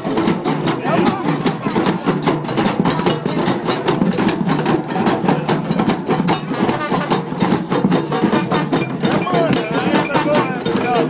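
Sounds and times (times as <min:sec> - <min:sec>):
hand drums playing fast rhythm: 0:00.0 - 0:11.0.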